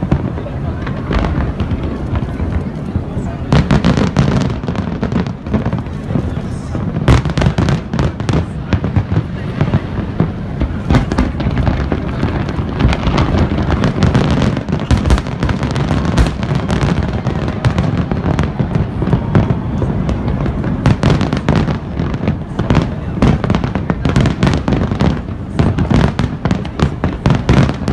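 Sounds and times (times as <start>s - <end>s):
fireworks bangs and pops: 0.0s - 27.9s.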